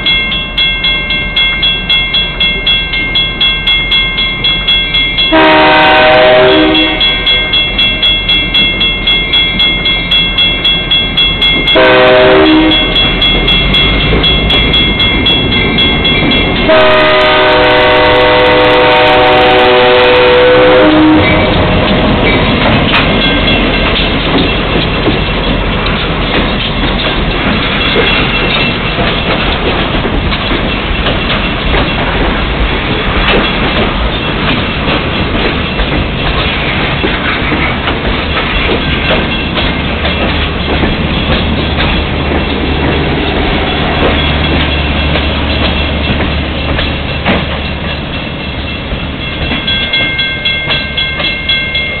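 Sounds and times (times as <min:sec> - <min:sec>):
crossing bell ringing: 0:00.0 - 0:52.0
diesel locomotive engine rumbling: 0:00.0 - 0:52.0
train wheels clacking on rail joints: 0:00.1 - 0:52.0.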